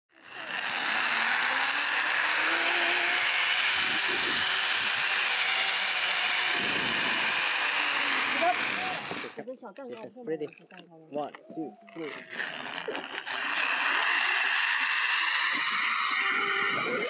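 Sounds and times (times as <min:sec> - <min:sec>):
zipline pulleys running along cable: 0:00.1 - 0:09.4, 0:11.9 - 0:17.0.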